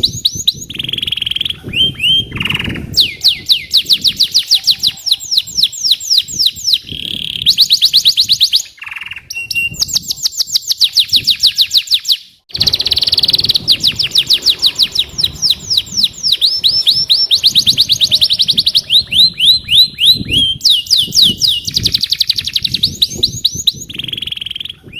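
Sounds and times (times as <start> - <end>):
canary singing trills: 0.0 - 24.9.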